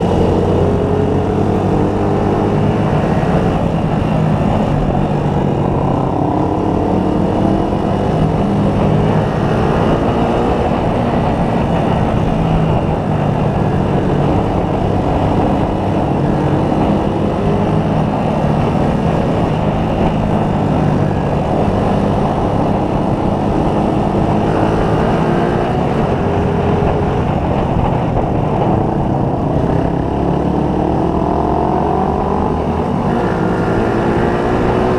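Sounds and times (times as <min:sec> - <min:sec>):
motorcycle engine accelerating: 0:00.0 - 0:34.9
wind and road noise: 0:00.0 - 0:34.9.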